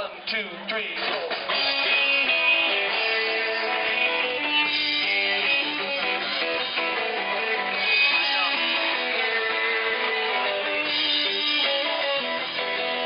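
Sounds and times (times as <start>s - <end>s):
live rock band playing: 1.0s - 13.0s
strummed guitars: 1.0s - 13.0s.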